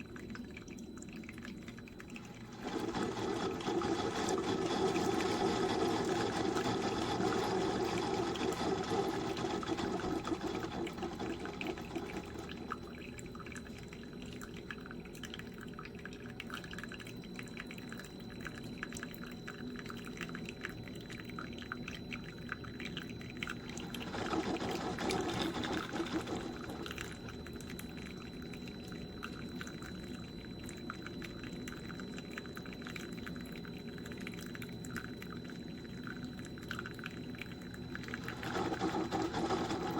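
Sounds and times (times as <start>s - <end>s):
coffee streaming into cup: 0.1s - 17.1s, 22.8s - 39.9s.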